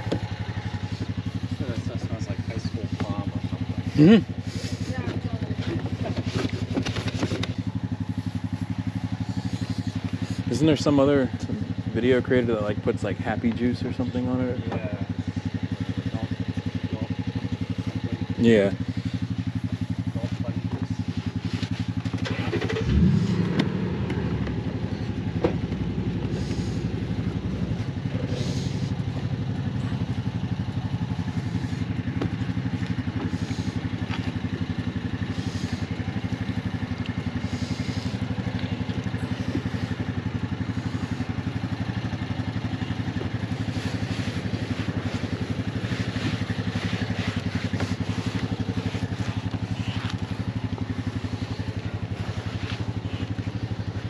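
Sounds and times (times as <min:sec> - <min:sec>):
pressure washer engine running: 0:00.0 - 0:15.4, 0:16.0 - 0:54.0.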